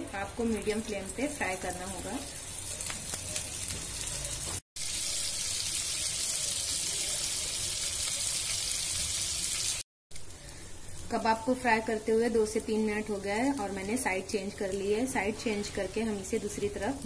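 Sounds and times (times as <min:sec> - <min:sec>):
patties sizzling in oil: 0:00.0 - 0:17.0.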